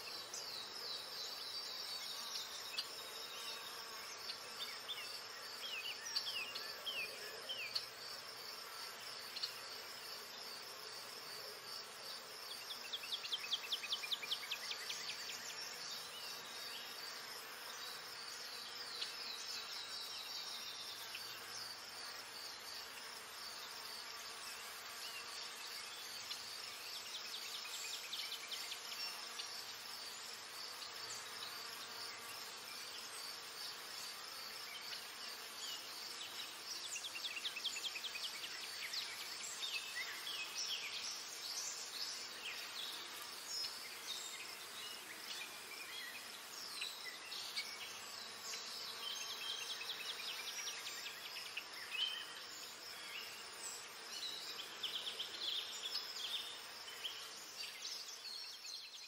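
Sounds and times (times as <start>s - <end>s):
insect buzzing: 0.0s - 59.0s.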